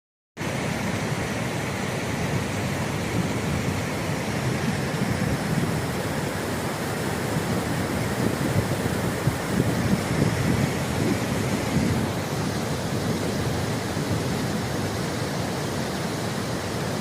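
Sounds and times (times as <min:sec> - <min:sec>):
rushing water: 0:00.4 - 0:17.0.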